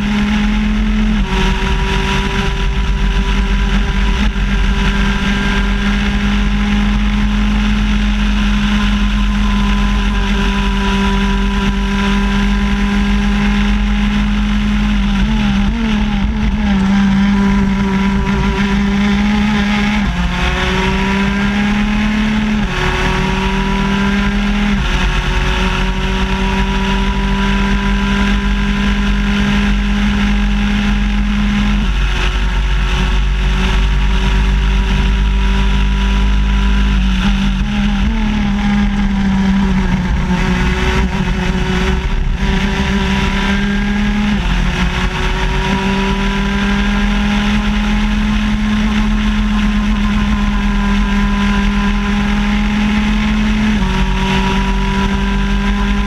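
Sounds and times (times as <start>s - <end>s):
heavy low rumble: 0.0s - 56.0s
kart engine at high revs: 0.0s - 56.0s.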